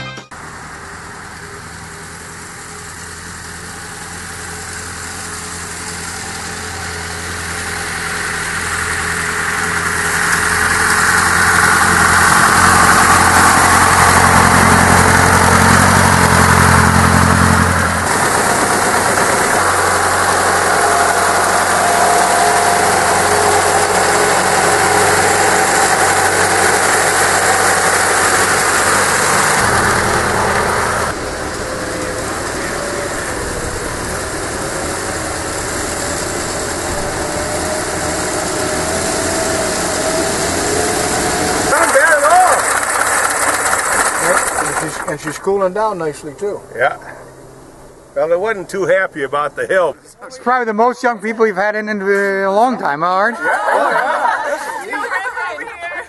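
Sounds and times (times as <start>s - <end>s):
old car engine running: 0.3s - 50.1s.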